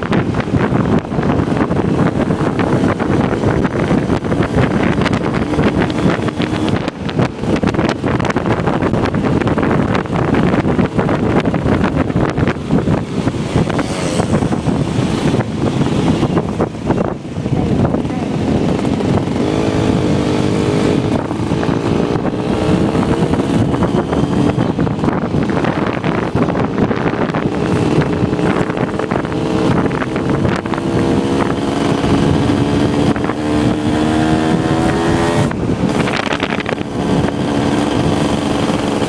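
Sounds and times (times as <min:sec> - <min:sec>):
motorcycle engine accelerating: 0:00.0 - 0:39.0
wind noise on microphone: 0:00.0 - 0:39.0.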